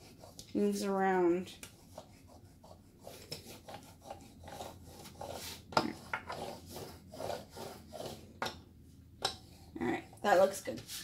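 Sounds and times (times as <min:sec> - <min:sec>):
brayer rubbing over fabric: 0:00.0 - 0:08.3, 0:10.3 - 0:11.0.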